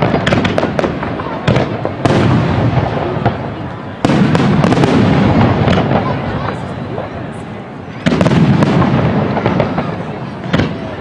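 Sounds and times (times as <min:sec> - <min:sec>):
loud firework bang: 0:00.0 - 0:03.4, 0:04.0 - 0:06.6, 0:08.0 - 0:11.0
fireworks booming and crackling: 0:00.0 - 0:11.0.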